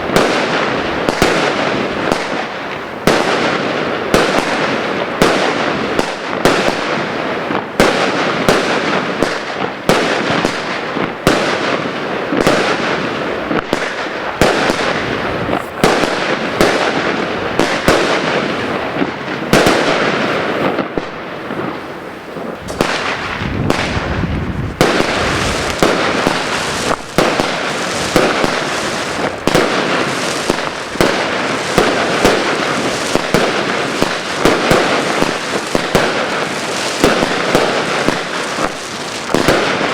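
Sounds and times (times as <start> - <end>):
fireworks banging: 0.0 - 39.9
fireworks crackling: 0.0 - 39.9.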